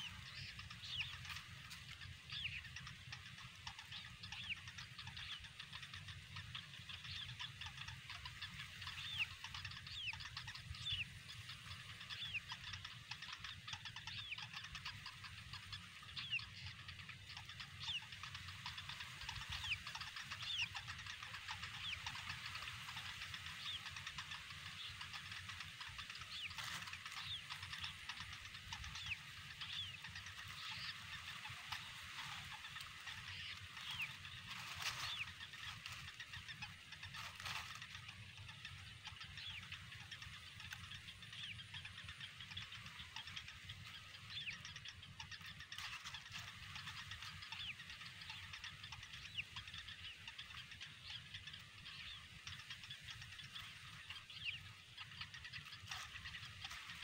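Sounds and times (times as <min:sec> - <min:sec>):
bird chicks begging calls: 0:00.0 - 0:57.0
steady low rumble: 0:00.0 - 0:57.0.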